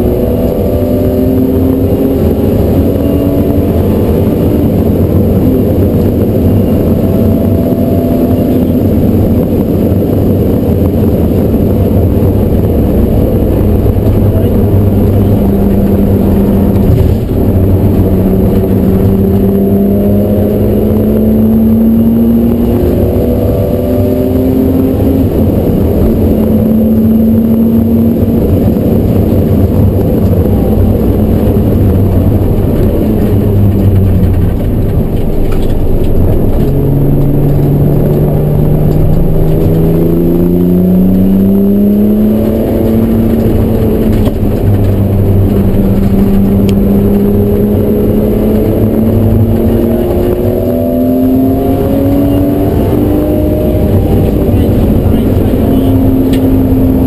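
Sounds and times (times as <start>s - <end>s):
car engine accelerating: 0.0s - 57.0s
road and tyre noise: 0.0s - 57.0s.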